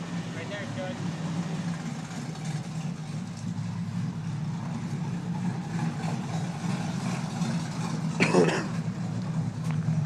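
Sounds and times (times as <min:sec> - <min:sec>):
race car engine idling: 0:00.0 - 0:10.0.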